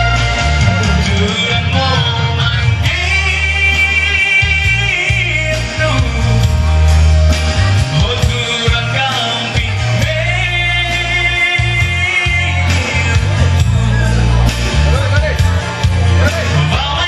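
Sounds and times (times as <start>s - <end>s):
man singing into microphone: 0.0s - 6.9s, 7.8s - 14.7s, 16.1s - 17.0s
amplified music with heavy bass: 0.0s - 17.0s.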